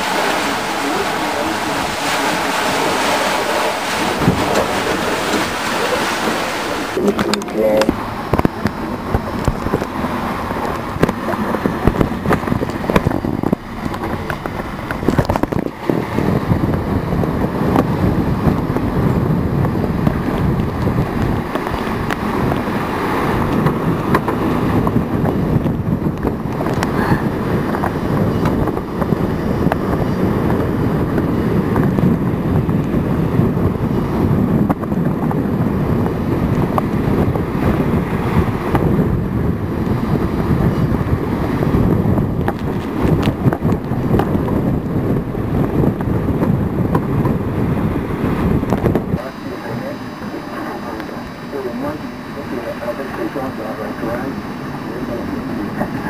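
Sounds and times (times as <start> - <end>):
water rushing past hull: 0.0 - 56.0
wind buffeting microphone: 0.0 - 56.0.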